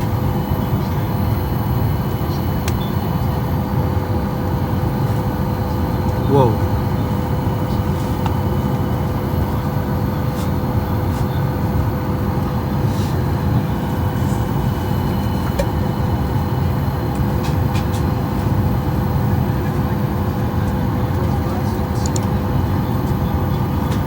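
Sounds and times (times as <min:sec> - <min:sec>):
airliner cabin hum: 0:00.0 - 0:24.0.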